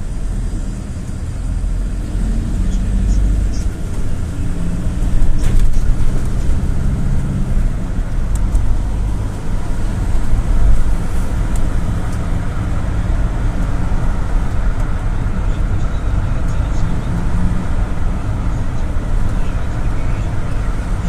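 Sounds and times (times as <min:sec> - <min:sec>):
minibus engine drone: 0:00.0 - 0:21.0
road rumble: 0:00.0 - 0:21.0.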